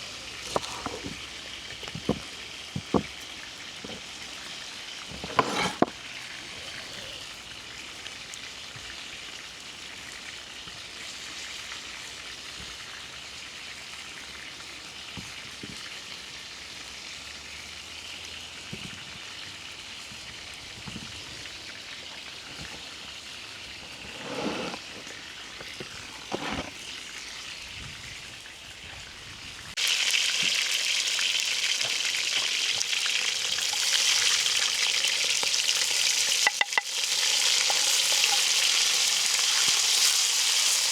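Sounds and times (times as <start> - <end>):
food sizzling on hot plate: 0.0 - 27.6, 29.7 - 40.9.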